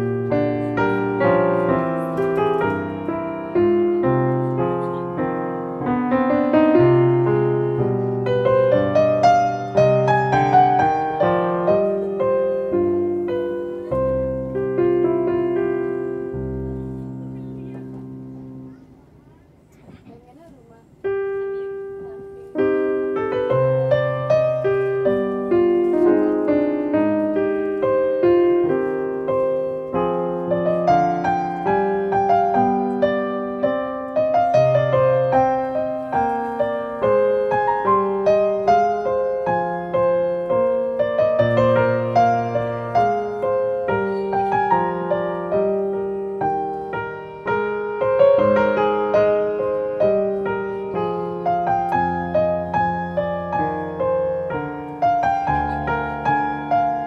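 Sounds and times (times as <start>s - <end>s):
piano music: 0.0s - 19.6s, 20.7s - 57.0s.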